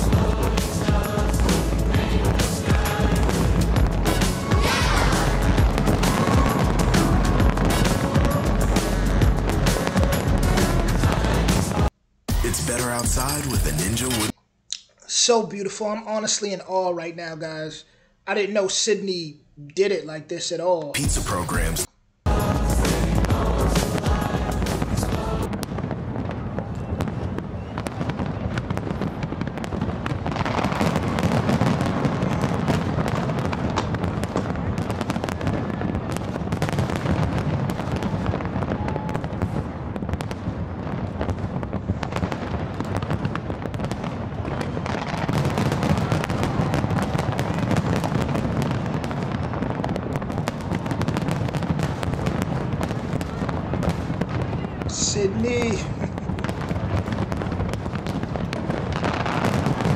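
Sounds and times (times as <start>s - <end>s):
fireworks bangs and crackling: 0.0s - 14.3s, 21.0s - 59.9s.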